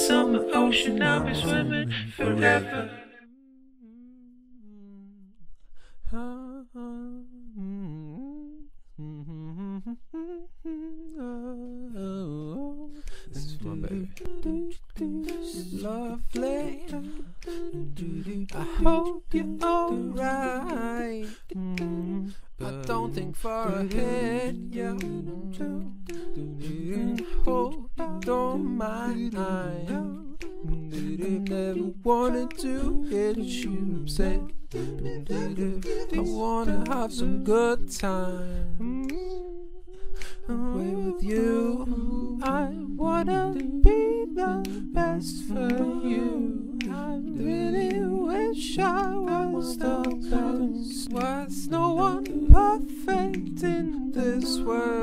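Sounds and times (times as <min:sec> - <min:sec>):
person humming a melody: 0:00.0 - 0:03.2, 0:03.8 - 0:05.4, 0:06.1 - 0:55.0
person singing with vibrato: 0:00.0 - 0:05.2, 0:06.1 - 0:55.0.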